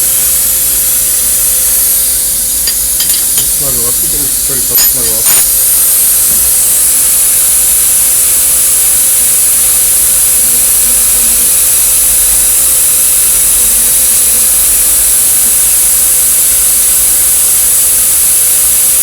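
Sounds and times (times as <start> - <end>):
steady loud hiss: 0.0 - 19.0.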